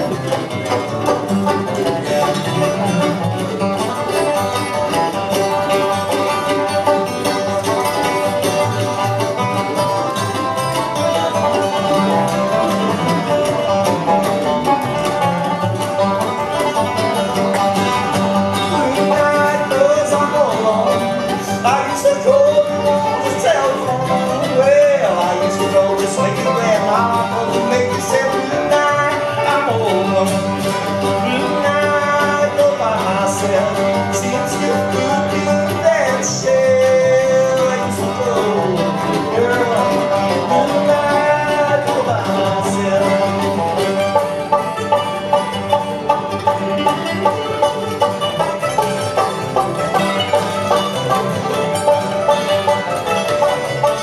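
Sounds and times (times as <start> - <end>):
acoustic guitar picking: 0.0 - 54.0
banjo picking: 0.0 - 54.0
mandolin: 0.0 - 54.0.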